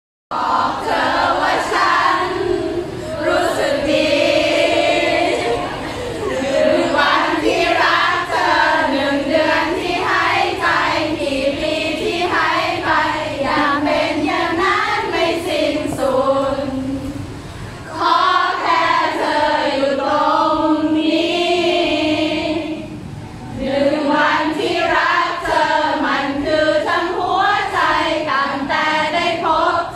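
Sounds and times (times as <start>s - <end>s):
crowd singing in unison: 0.3s - 29.9s.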